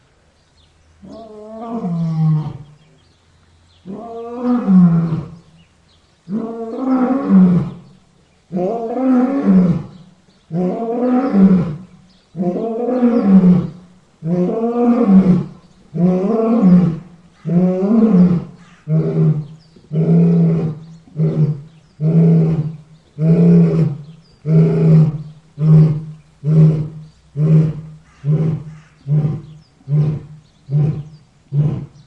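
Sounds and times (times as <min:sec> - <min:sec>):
big cat roaring: 0:01.0 - 0:02.8, 0:03.8 - 0:05.4, 0:08.5 - 0:32.0.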